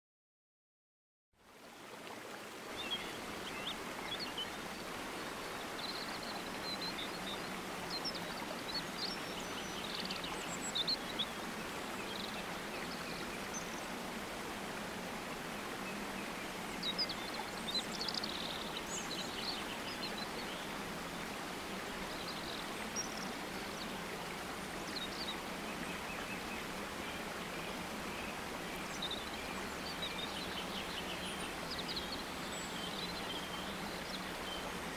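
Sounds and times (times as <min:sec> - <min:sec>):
flowing water rushing: 0:01.4 - 0:34.9
small birds chirping: 0:02.8 - 0:14.2, 0:15.5 - 0:34.9.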